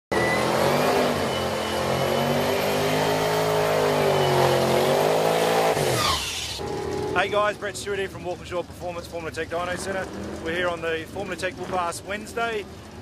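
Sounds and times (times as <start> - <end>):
car engine running: 1.3 - 13.0.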